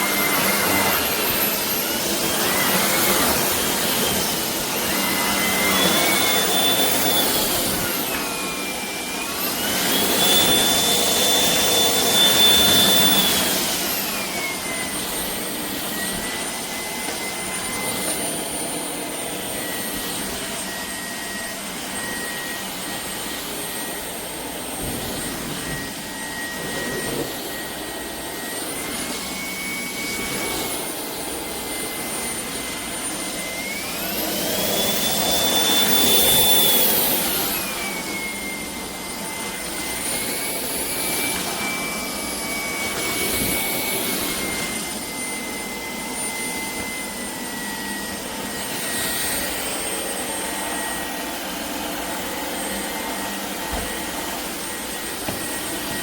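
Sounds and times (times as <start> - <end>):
vacuum motor whining: 0.0 - 56.0.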